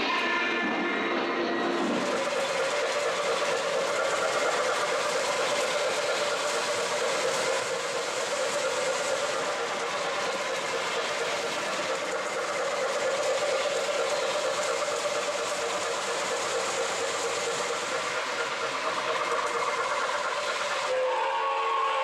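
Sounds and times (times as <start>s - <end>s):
model train steam sound effects: 0.0s - 22.0s
wheels rumbling on rail: 0.0s - 22.0s.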